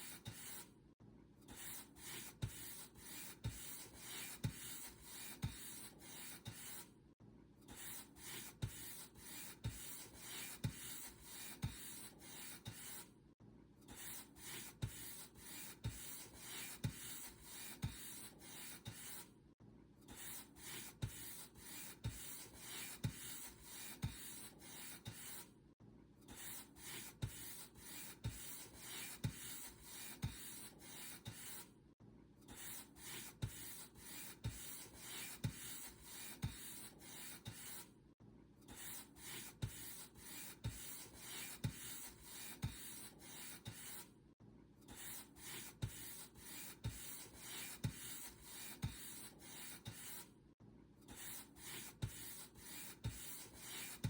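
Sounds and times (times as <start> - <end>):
paint brush stroking a surface: 1.6 - 6.8, 7.8 - 13.1, 14.0 - 19.3, 20.2 - 25.5, 26.4 - 31.7, 32.6 - 37.9, 38.8 - 44.1, 44.9 - 50.3, 51.2 - 54.0.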